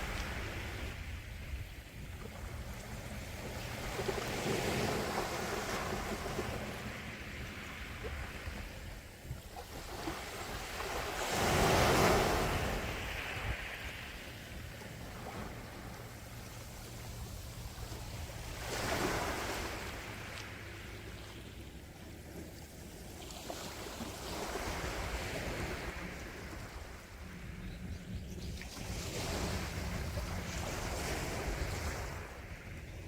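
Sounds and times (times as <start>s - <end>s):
sea waves surging on shore: 0.0s - 27.6s, 28.7s - 33.0s.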